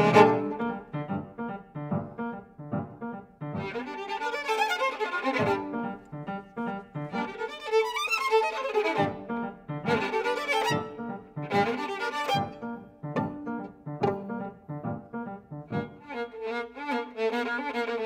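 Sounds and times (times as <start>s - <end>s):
bowed string instrument: 0.0s - 18.0s
grand piano accompaniment: 0.0s - 18.0s.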